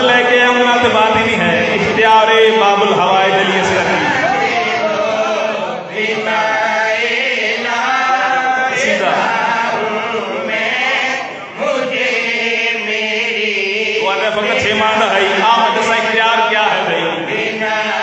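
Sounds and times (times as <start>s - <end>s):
man chanting through loudspeakers: 0.0s - 18.0s.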